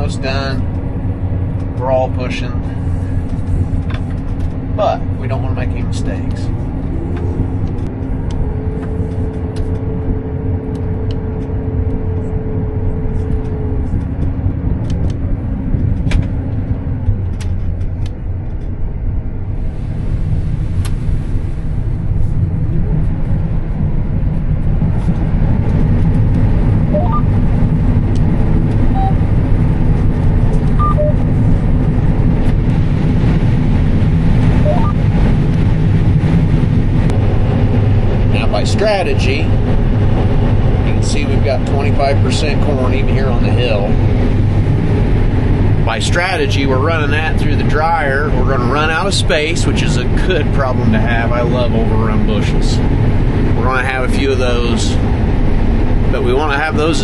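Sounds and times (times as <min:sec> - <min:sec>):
combine harvester droning: 0:00.0 - 0:57.0
steady whine: 0:00.0 - 0:57.0.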